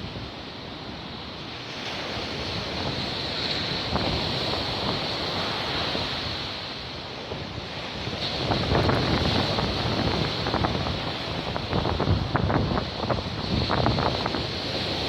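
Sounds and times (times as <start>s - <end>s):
surf breaking on shore: 0.0s - 15.0s
wind buffeting microphone: 1.9s - 15.0s.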